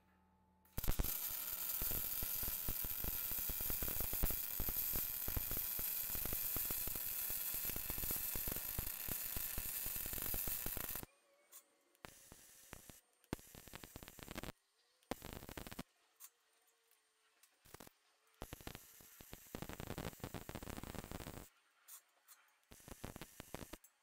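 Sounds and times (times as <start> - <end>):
arc welding crackle: 0.8 - 11.1, 12.0 - 16.4, 17.4 - 22.0, 22.7 - 23.9.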